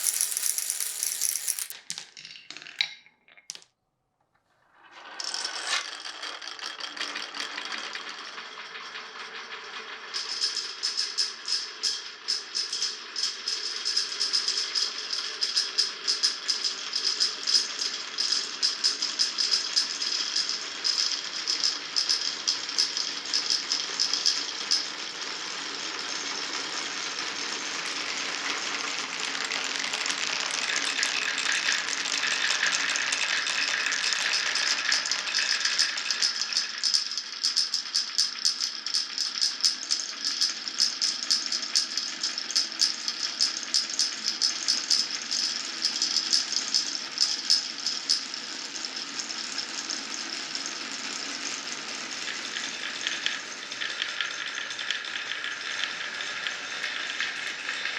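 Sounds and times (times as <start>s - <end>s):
marbles clacking down wooden run: 0.0s - 3.6s, 10.1s - 25.2s, 26.0s - 57.9s
marbles rolling smoothly: 0.0s - 3.6s, 4.8s - 57.9s.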